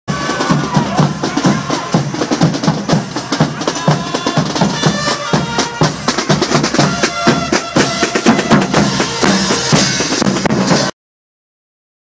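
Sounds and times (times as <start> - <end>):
marching drum band: 0.1 - 10.9.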